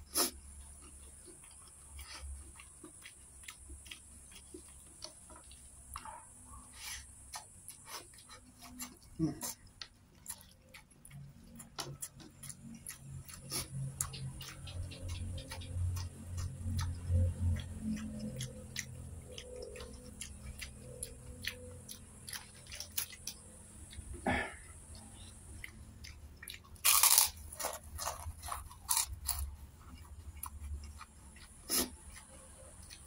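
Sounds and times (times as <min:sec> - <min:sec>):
man chewing food: 0:00.0 - 0:33.0.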